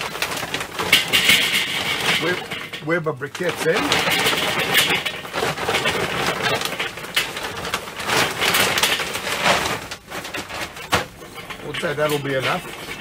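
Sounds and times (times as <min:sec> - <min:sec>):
charcoal briquettes clattering on metal: 0:00.0 - 0:13.0.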